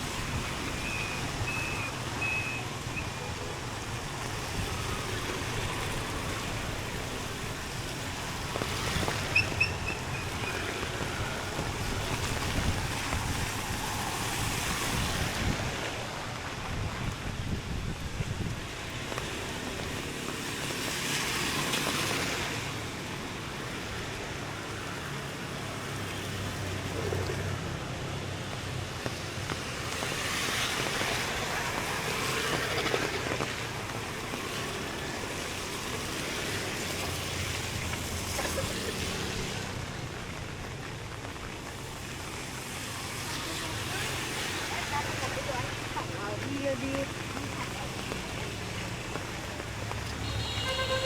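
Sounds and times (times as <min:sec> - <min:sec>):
tyres hissing on wet road: 0:00.0 - 0:51.0.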